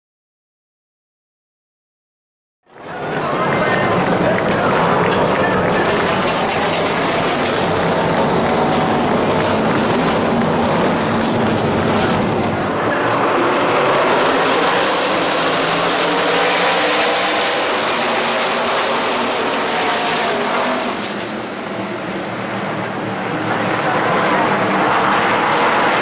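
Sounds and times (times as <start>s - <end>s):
race trucks passing at speed: 2.8s - 26.0s.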